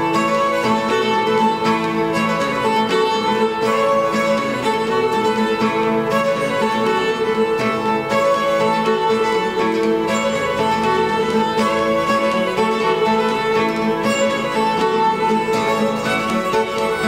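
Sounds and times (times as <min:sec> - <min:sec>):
acoustic guitar strumming: 0:00.0 - 0:17.0
fiddle tune: 0:00.0 - 0:17.0.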